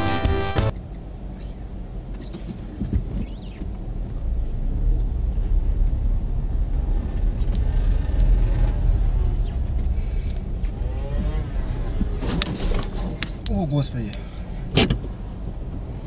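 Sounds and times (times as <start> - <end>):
car engine and road rumble: 0.6 - 16.0.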